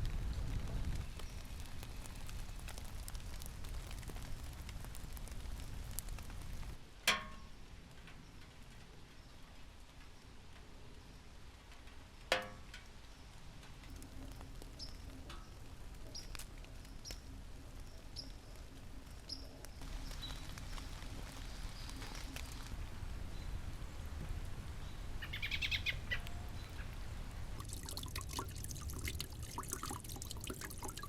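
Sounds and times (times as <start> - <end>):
rain pattering: 0.0 - 31.0.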